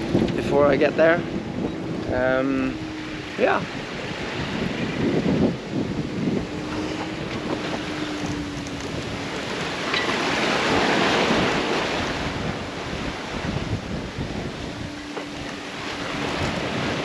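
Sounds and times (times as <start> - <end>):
water rushing past hull: 0.0 - 17.0
wind buffeting microphone: 0.0 - 17.0.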